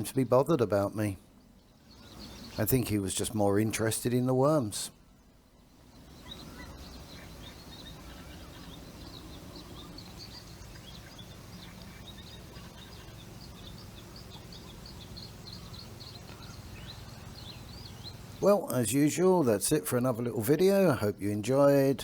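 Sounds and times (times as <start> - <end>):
low background rumble: 0.0 - 18.4
small birds chirping: 0.0 - 22.0.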